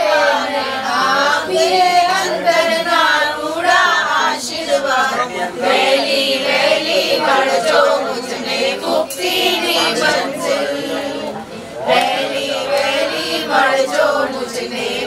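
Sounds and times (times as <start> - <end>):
group singing devotional song: 0.0 - 15.0.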